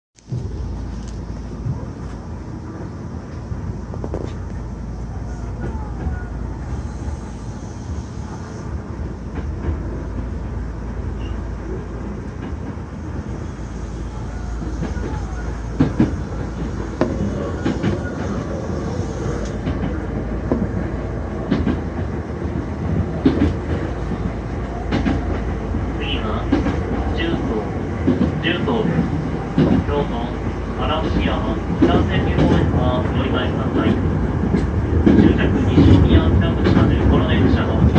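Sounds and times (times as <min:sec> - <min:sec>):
train rumbling: 0:00.2 - 0:37.9
gale winds howling: 0:00.3 - 0:37.9
rail-joint clacks: 0:05.4 - 0:10.5, 0:11.1 - 0:37.9.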